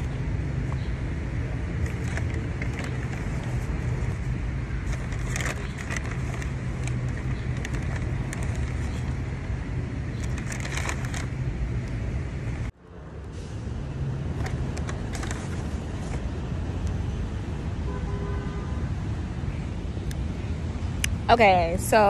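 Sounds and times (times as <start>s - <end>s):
motor vehicle hum: 0.0s - 22.0s.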